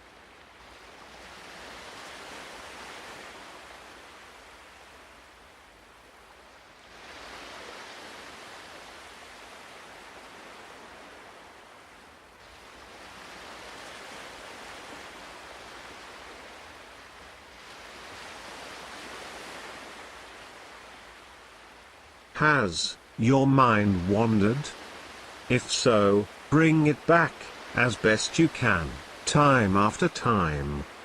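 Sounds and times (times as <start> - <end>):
ocean waves washing ashore: 0.0 - 31.0.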